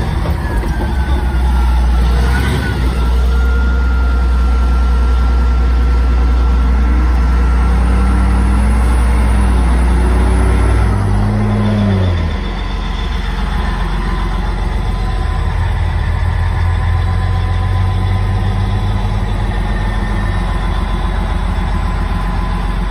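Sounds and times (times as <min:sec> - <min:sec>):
bulldozer diesel engine drone: 0:00.0 - 0:22.9.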